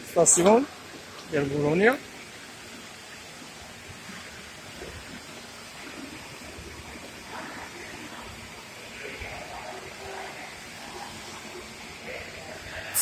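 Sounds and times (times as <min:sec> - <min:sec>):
train station background noise: 0:00.0 - 0:13.0.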